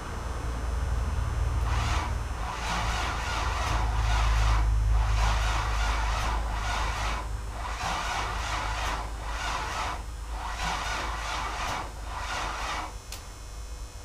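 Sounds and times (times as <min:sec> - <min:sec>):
boat engine cranking: 0:01.6 - 0:13.0.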